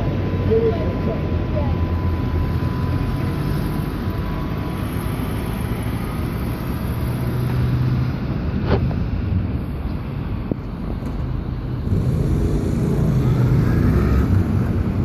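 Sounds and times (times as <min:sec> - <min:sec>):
buses and road traffic: 0:00.0 - 0:15.0.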